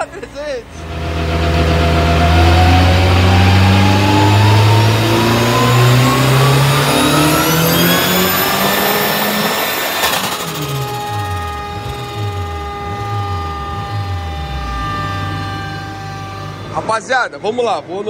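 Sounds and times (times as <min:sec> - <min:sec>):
turbo whine: 0:00.0 - 0:18.0
engine revving on dynamometer: 0:00.6 - 0:17.4.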